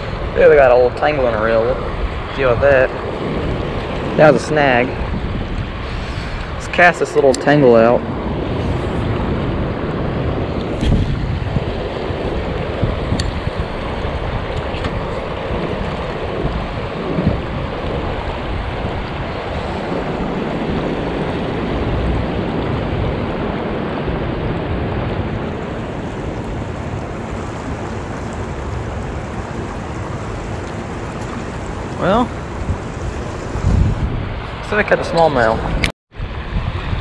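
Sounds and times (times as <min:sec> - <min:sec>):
fast-flowing river: 0:00.0 - 0:37.0
wind buffeting microphone: 0:00.0 - 0:37.0.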